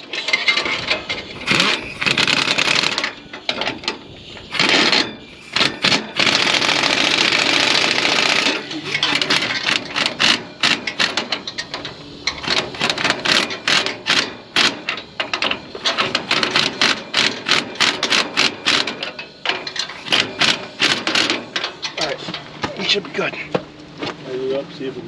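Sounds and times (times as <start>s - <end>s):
ratchet wrench clicking: 0.2s - 22.2s.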